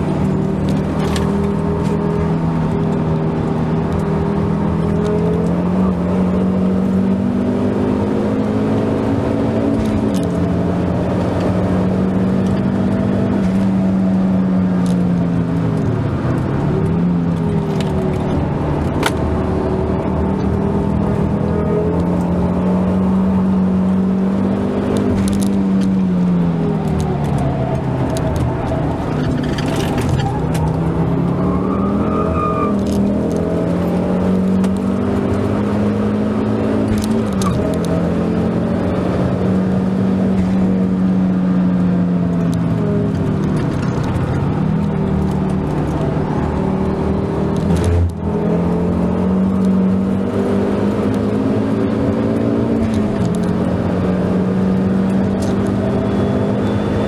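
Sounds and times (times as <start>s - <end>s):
car engine revving under acceleration: 0.0s - 57.0s.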